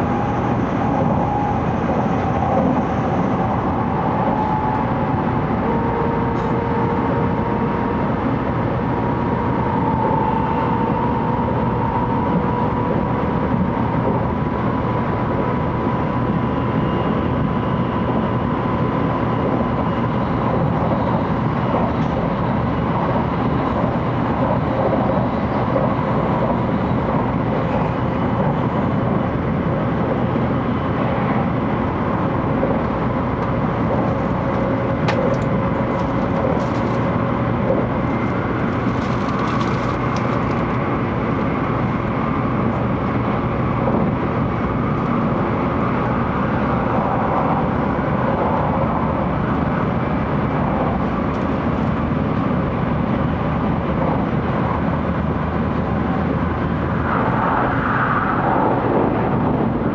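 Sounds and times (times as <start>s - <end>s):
train cabin rumble: 0.0s - 59.9s.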